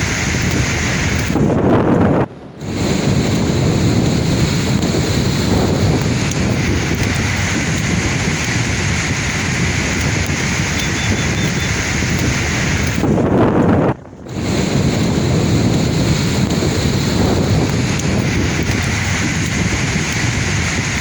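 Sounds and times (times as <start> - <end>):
sea waves washing on shore: 0.0 - 21.0
wind buffeting microphone: 0.0 - 21.0.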